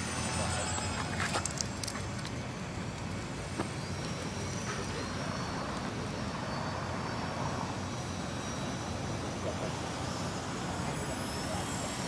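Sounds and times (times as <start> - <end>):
model airplane motor whine: 0.0 - 12.0
outdoor background noise: 0.0 - 12.0.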